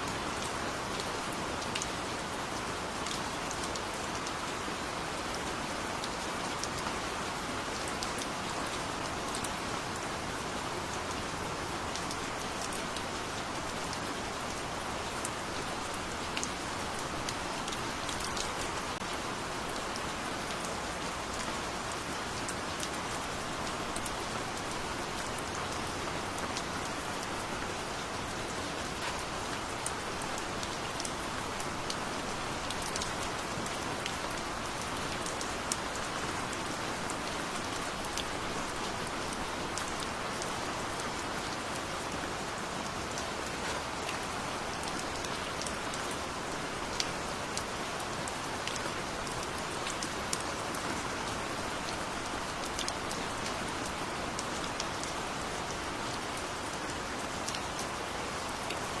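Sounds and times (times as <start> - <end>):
raindrops ticking on a surface: 0.0 - 59.0
steady rain hiss: 0.0 - 59.0.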